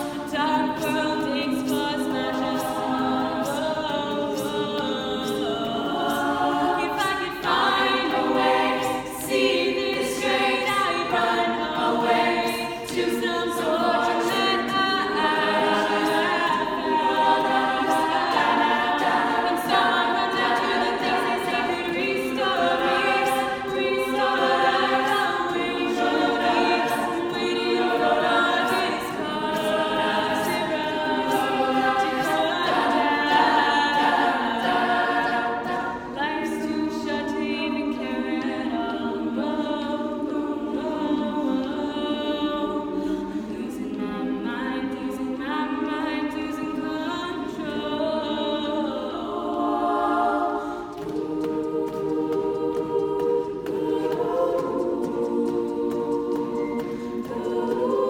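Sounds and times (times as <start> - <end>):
a cappella group singing in harmony: 0.0 - 58.0
lead singing voice: 0.0 - 58.0
sustained backing voices: 0.0 - 58.0.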